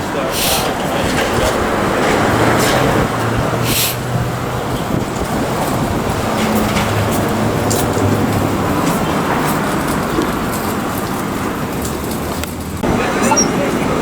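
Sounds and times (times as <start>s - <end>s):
low engine drone: 0.0s - 14.0s
passing traffic rumble: 0.0s - 14.0s.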